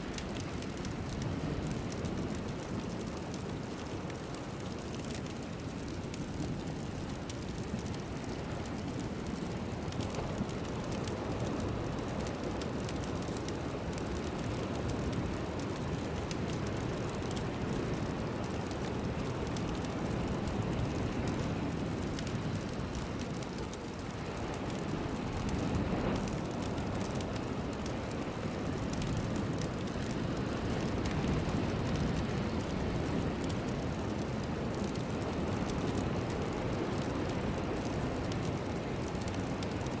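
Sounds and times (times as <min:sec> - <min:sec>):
faint crackling ticks: 0:00.0 - 0:40.0.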